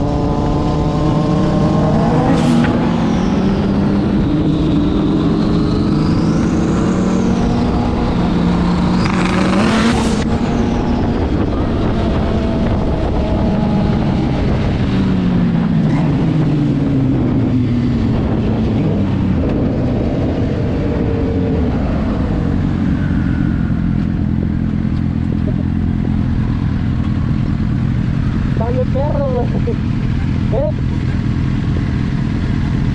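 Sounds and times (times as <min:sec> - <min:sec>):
car engine revving: 0:00.0 - 0:32.7.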